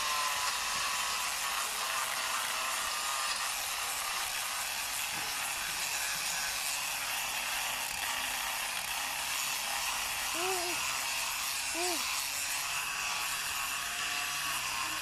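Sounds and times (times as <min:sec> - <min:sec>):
rotary tool grinding wood: 0:00.0 - 0:15.0.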